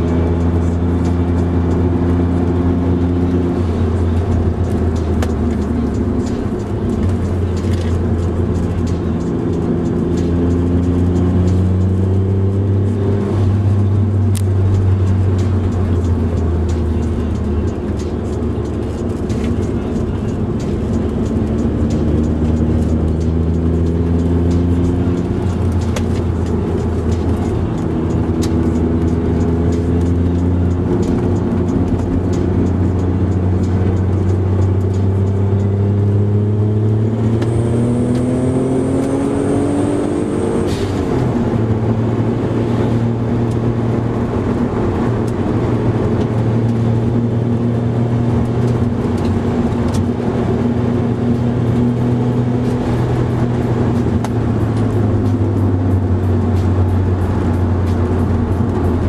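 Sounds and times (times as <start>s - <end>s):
car engine: 0.0s - 59.0s
road noise inside car: 0.0s - 59.0s.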